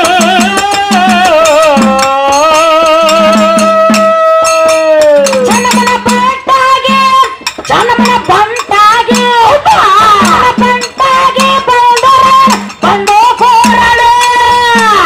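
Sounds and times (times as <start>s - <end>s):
drum beat: 0.0s - 15.0s
hand cymbals: 0.0s - 15.0s.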